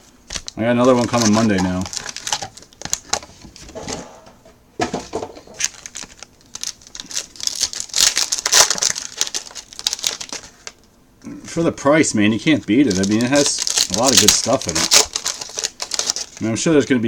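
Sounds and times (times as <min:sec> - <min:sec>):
card wrappers crinkling: 0:00.2 - 0:03.9, 0:04.9 - 0:10.9, 0:12.4 - 0:16.8.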